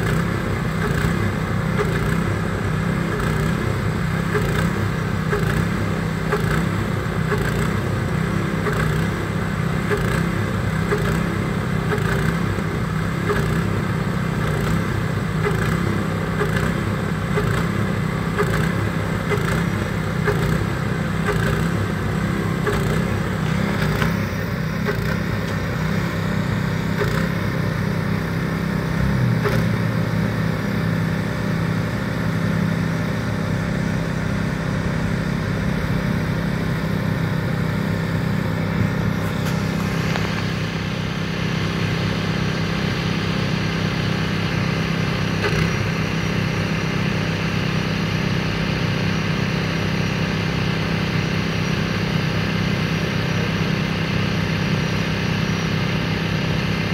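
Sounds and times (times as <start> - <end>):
machine engine droning: 0.0 - 56.9.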